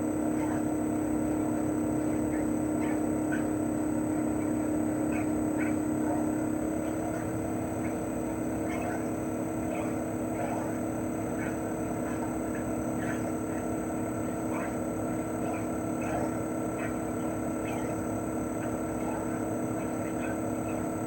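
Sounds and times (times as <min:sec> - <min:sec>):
compressor humming: 0:00.0 - 0:21.0
fan rushing: 0:00.0 - 0:21.0.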